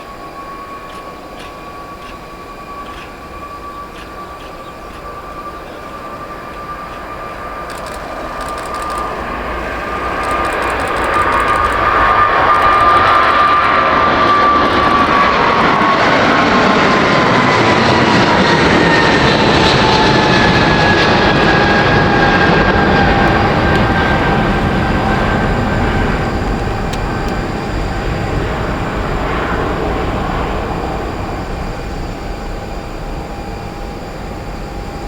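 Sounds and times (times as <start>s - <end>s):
jet airliner engines roaring: 0.0s - 35.0s.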